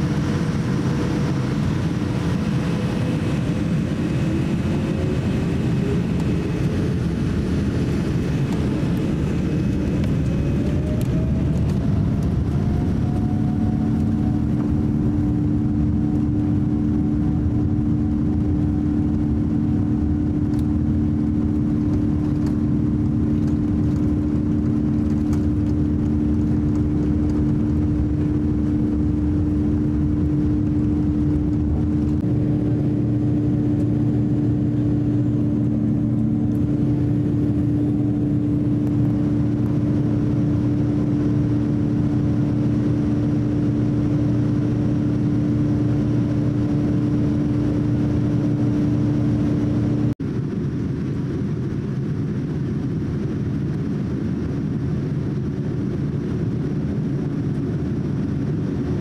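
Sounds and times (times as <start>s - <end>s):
jet engines rumbling in cabin: 0.0s - 59.0s
steady hum: 0.0s - 59.0s.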